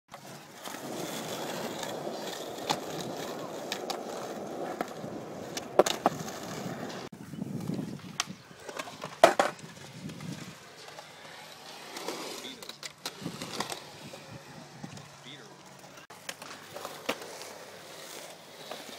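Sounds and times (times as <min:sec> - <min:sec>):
skateboard clacking on ground: 0:00.1 - 0:18.9
skateboard wheels rolling on concrete: 0:00.1 - 0:18.9.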